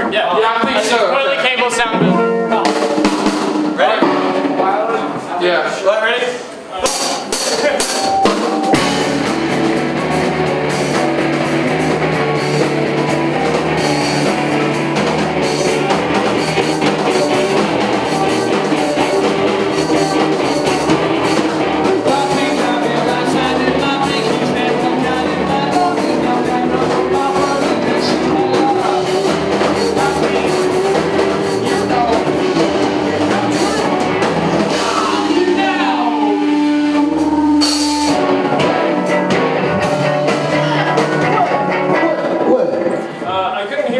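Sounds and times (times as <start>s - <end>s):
rock band playing: 0.0s - 43.5s
sliding guitar notes: 1.8s - 5.3s, 6.8s - 43.3s.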